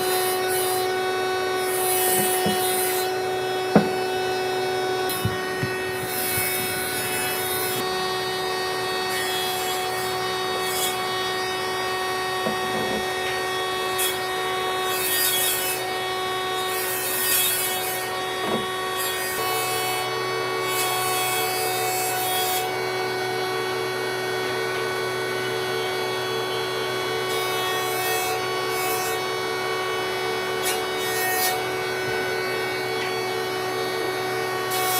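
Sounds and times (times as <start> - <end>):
electric power tool cutting wood: 0.0 - 34.9.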